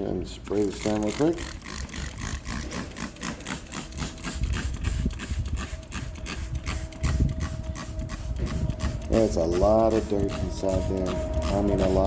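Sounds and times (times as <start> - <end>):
steady hum: 0.0 - 12.0
spray wand with pump pulsing: 0.4 - 12.0.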